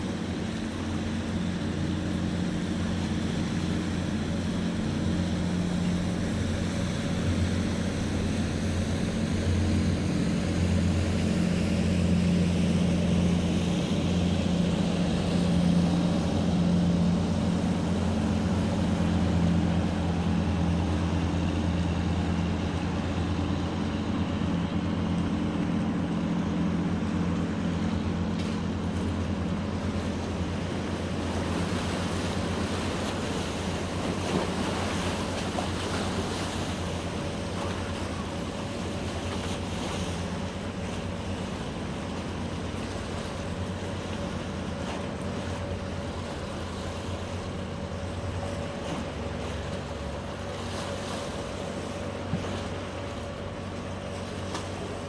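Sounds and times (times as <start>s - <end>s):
boat engine running: 0.0s - 55.0s
wash of moving water: 0.0s - 55.0s.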